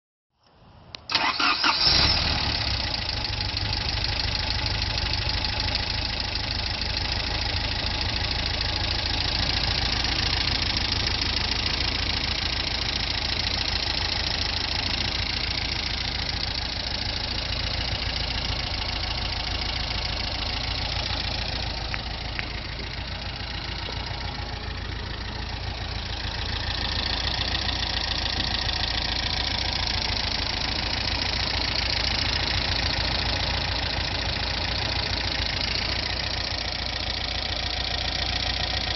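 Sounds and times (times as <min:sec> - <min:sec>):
car engine starting and idling: 0:00.5 - 0:38.9.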